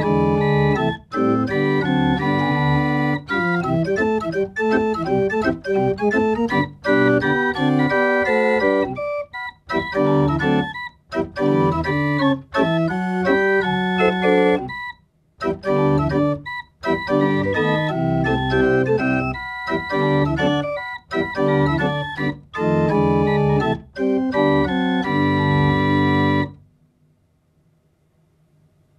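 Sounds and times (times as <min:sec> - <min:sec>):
pipe organ playing chords: 0:00.0 - 0:26.6.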